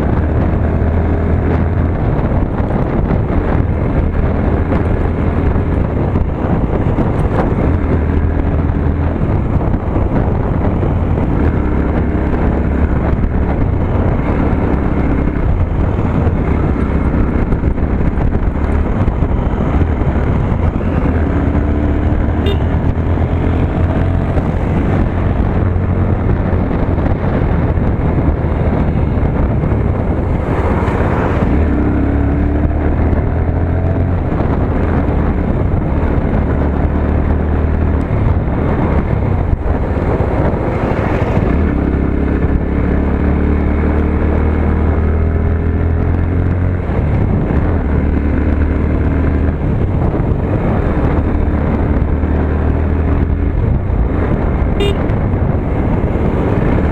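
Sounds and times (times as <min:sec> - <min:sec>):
motorcycle engine revving: 0:00.0 - 0:56.9
wind on microphone: 0:00.0 - 0:56.9.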